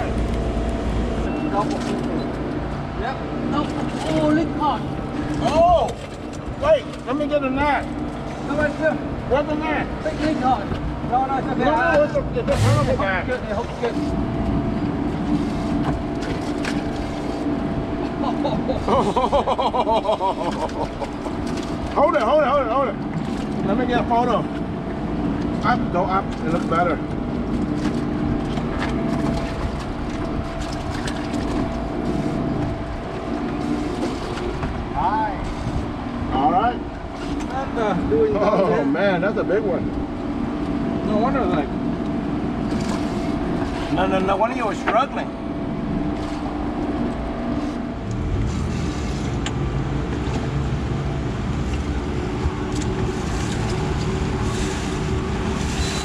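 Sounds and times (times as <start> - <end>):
boat motor running: 0.0 - 56.0
low engine hum: 0.0 - 56.0.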